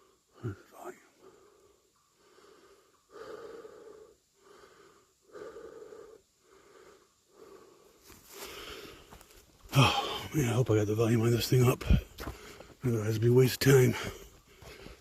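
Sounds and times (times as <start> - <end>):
man breathing heavily: 0.0 - 10.4, 11.8 - 12.8, 13.8 - 15.0.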